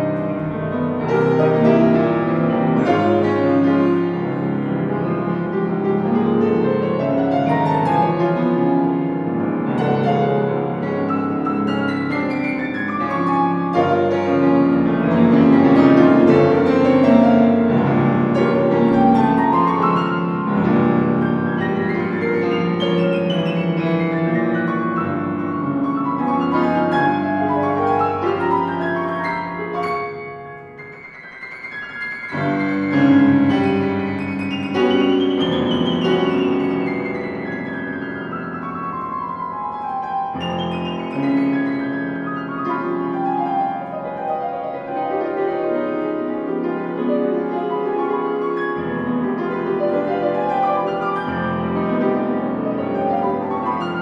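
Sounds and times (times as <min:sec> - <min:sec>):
solo piano playing: 0:00.0 - 0:54.0.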